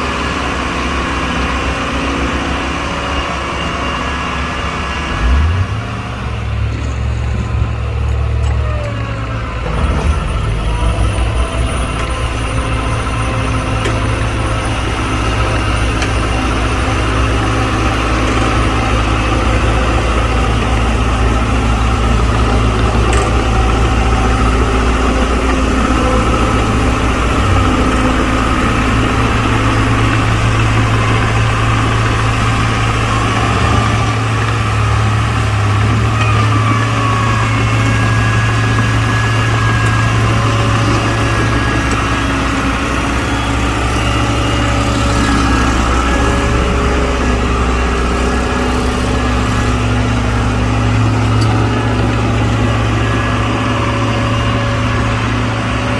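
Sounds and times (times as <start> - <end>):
diesel engine running at low revs: 0.0 - 55.9.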